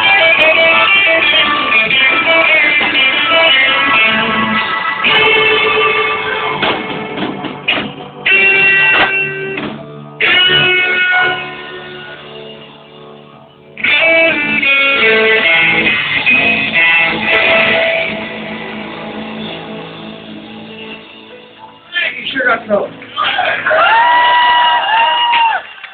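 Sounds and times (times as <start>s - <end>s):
blues rock band playing: 0.0s - 12.8s, 13.7s - 21.8s
electric guitar chords ringing: 0.0s - 23.2s.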